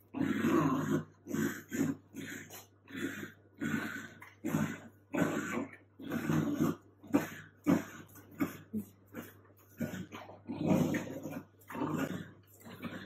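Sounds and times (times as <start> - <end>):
dogs play-growling and grunting: 0.0 - 13.0.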